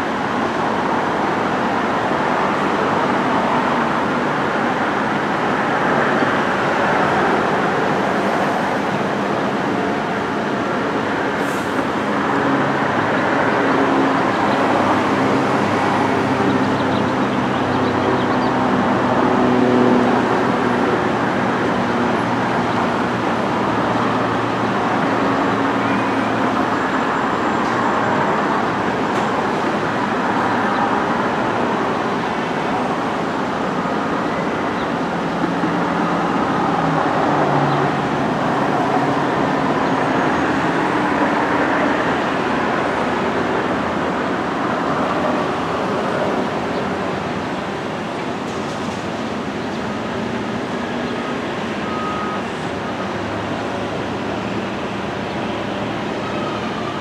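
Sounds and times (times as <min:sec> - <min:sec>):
constant rushing hum: 0:00.0 - 0:57.0
heavy engines droning: 0:00.0 - 0:57.0.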